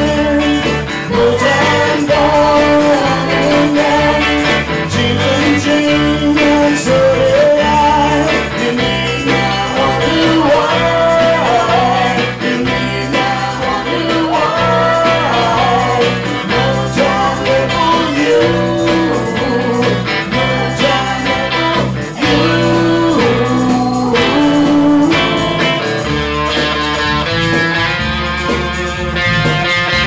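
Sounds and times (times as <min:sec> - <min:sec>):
man and woman singing: 0:00.0 - 0:26.2
electric guitar: 0:00.0 - 0:30.0
low bass: 0:00.0 - 0:30.0.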